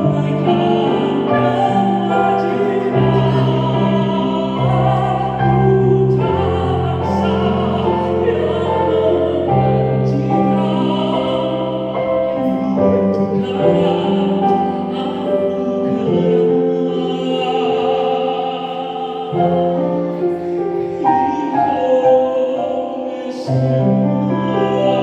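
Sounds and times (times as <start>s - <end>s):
man singing: 0.0s - 25.0s.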